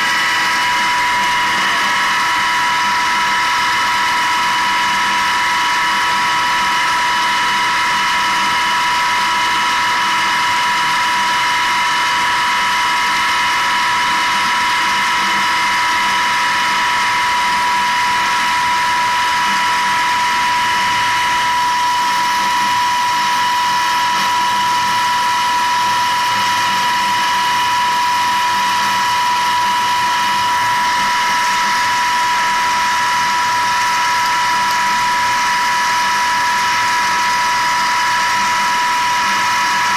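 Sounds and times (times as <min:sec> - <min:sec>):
pump high whine: 0:00.0 - 0:39.9.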